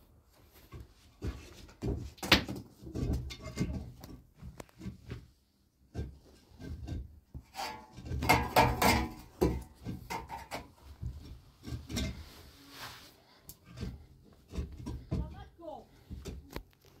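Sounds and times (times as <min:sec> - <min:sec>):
hand tool scraping mud wall: 0:02.8 - 0:16.4.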